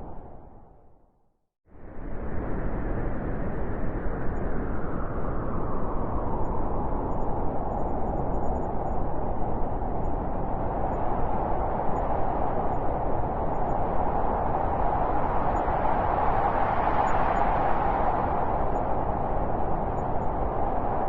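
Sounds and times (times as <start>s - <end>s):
storm wind howling: 1.8s - 21.0s.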